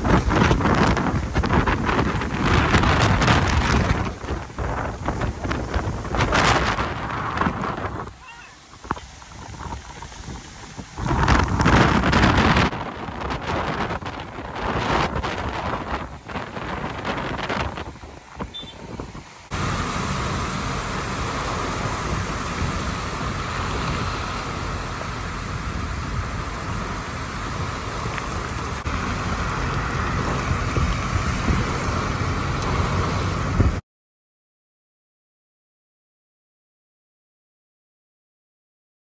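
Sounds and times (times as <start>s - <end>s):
car on wet road: 0.0s - 33.8s
heavy rain pouring: 0.0s - 33.8s
wind buffeting microphone: 0.0s - 33.8s.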